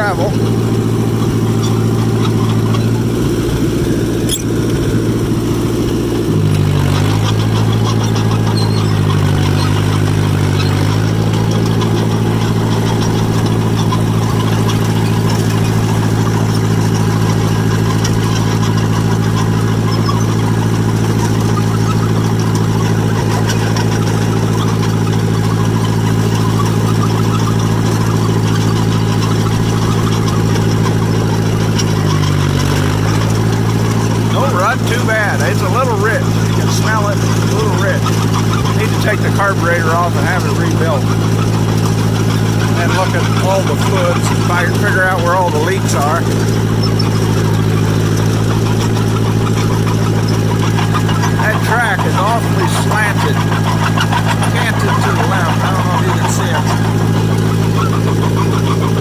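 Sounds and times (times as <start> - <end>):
crawler engine running: 0.0 - 59.0.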